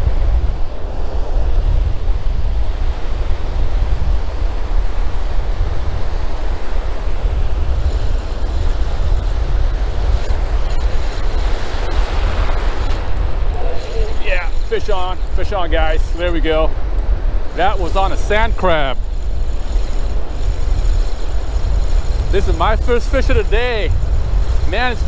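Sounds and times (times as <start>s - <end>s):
ocean surf breaking: 0.0s - 25.0s
wind buffeting microphone: 0.0s - 25.0s.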